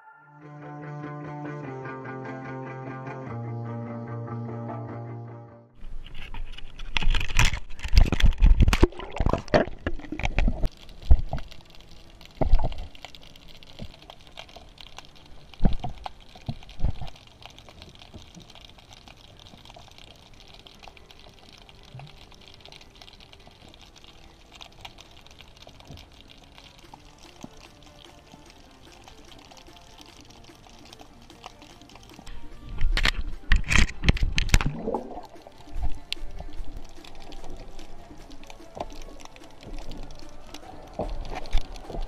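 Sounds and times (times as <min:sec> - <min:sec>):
bubbling: 0:05.8 - 0:42.0
water splashing: 0:05.8 - 0:42.0
muffled underwater hiss: 0:08.0 - 0:42.0.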